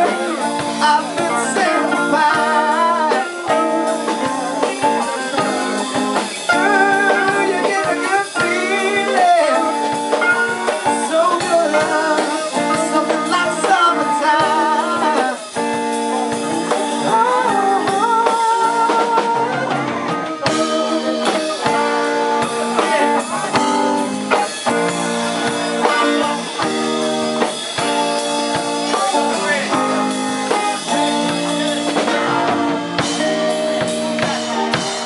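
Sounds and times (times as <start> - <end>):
drum kit hits: 0.0 - 35.0
electric guitars: 0.0 - 35.0.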